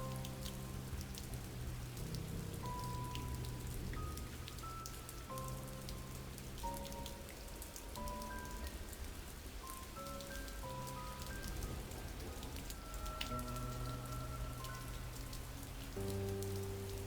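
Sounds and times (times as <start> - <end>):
sharp raindrop ticks: 0.0 - 17.0
soft ambient music: 0.0 - 17.0
steady rain: 0.0 - 17.0.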